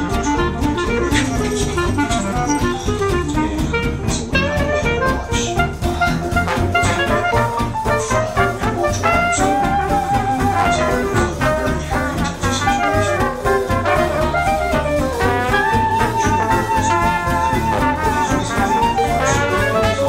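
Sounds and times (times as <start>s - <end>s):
upbeat jazz with horns: 0.0s - 20.0s.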